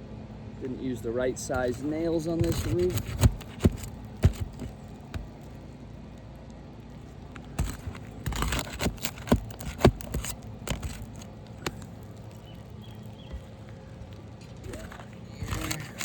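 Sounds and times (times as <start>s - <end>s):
hand tool knocking on roof shingles: 1.5s - 5.6s, 7.2s - 16.0s.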